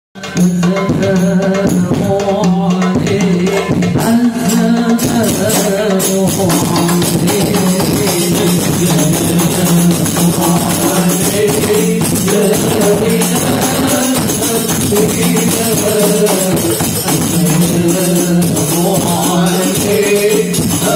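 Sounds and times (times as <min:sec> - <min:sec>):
frame drums in fast rhythm: 0:00.2 - 0:20.9
voices singing over a pa: 0:00.2 - 0:20.9.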